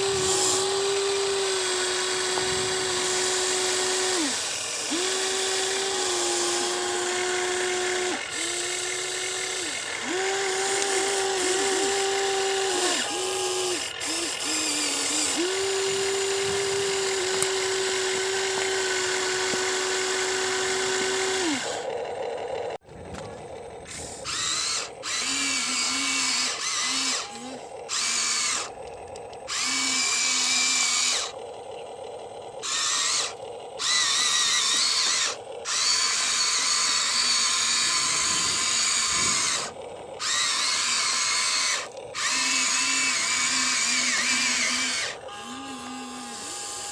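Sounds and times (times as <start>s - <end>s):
toy excavator electric motors whining: 0.0s - 46.9s.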